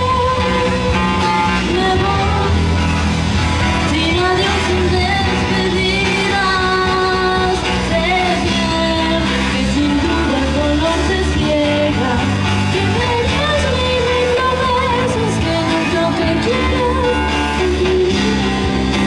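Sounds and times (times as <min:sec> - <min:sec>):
woman singing into microphone: 0:00.0 - 0:03.0, 0:03.6 - 0:19.0
electric bass guitar: 0:00.0 - 0:19.0
live amplified band: 0:00.0 - 0:19.0.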